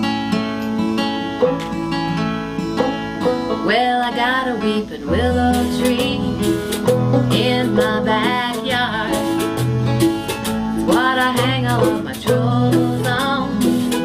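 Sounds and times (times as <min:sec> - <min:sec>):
banjo: 0:00.0 - 0:14.0
bass notes: 0:00.0 - 0:14.0
sliding lead melody: 0:00.0 - 0:14.0
strummed acoustic guitar: 0:00.0 - 0:14.0.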